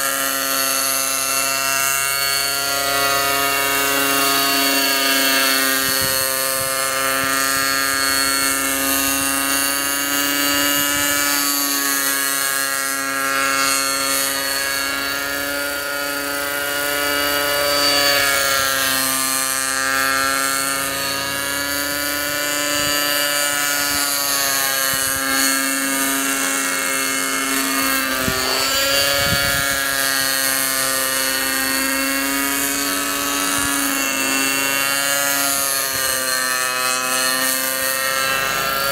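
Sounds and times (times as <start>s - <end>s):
model helicopter engine and rotors: 0.0s - 38.9s.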